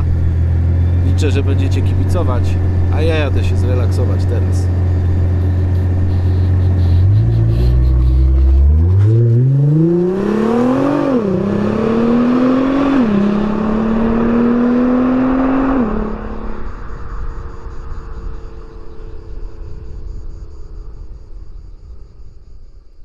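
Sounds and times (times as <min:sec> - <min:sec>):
sports car engine accelerating: 0:00.0 - 0:19.7.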